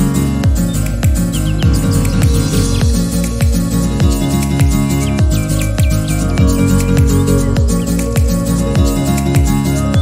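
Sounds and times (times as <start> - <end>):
electronic beat with deep kick: 0.0 - 10.0
sustained bass notes: 0.0 - 10.0.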